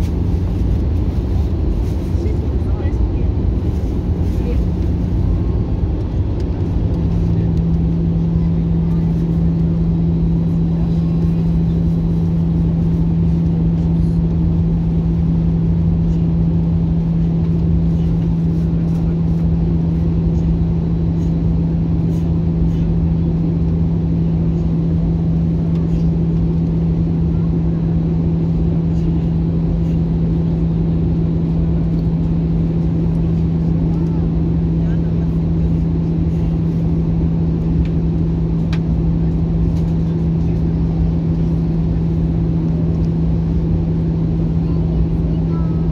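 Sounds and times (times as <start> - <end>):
aircraft cabin engine rumble: 0.0 - 45.9
steady droning hum: 0.0 - 45.9.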